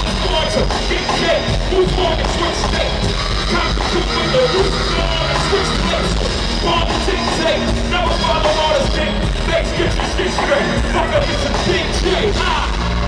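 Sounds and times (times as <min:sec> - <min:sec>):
hip-hop beat with heavy bass: 0:00.0 - 0:13.0
rapped vocals: 0:00.0 - 0:13.0.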